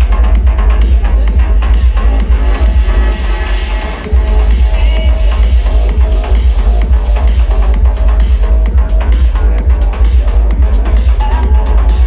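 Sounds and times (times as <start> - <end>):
electronic dance music with heavy bass: 0.0 - 12.0.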